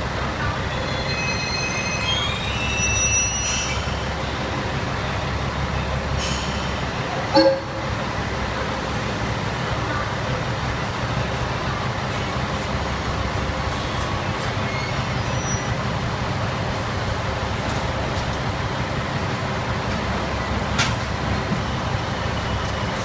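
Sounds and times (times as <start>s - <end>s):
diesel railcar engines idling: 0.0s - 23.0s.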